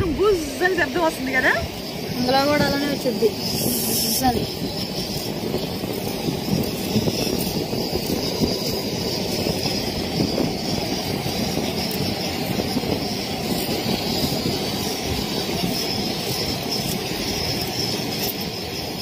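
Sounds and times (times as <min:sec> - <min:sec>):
rumbling wind noise on microphone: 0:00.0 - 0:19.0.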